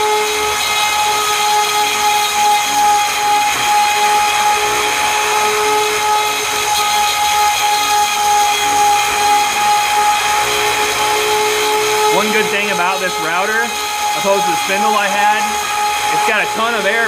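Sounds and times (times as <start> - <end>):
router cutting aluminum: 0.0 - 17.0.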